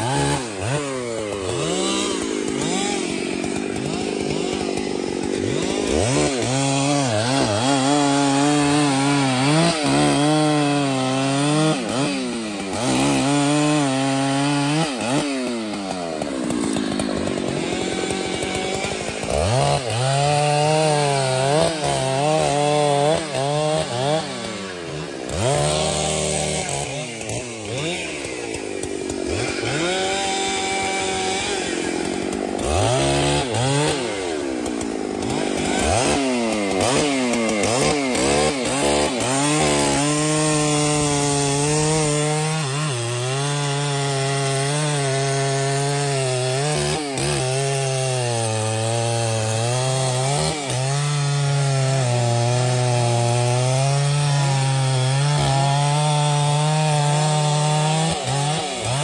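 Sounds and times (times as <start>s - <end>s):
chainsaw running: 0.0s - 59.0s.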